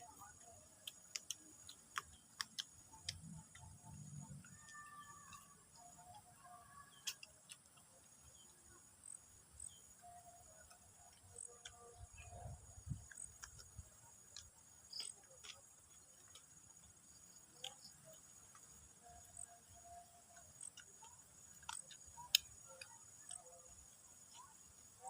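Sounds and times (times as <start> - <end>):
high-pitched insect trill: 0.0 - 25.0
small clicks and taps: 0.2 - 8.4, 10.5 - 24.5.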